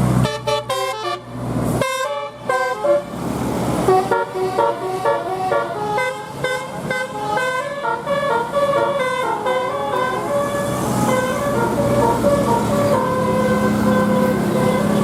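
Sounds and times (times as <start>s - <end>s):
musical air horn tune: 0.2s - 1.2s, 1.8s - 3.1s, 3.8s - 15.0s.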